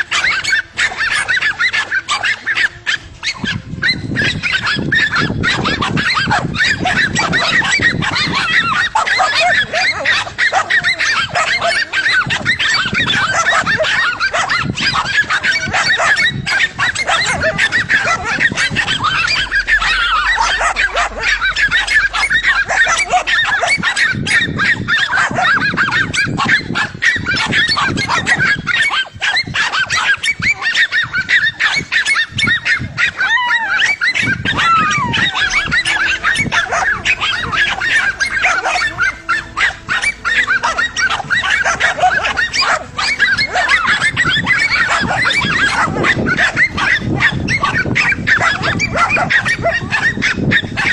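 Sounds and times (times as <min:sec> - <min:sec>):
dogs barking: 0:00.0 - 0:50.9.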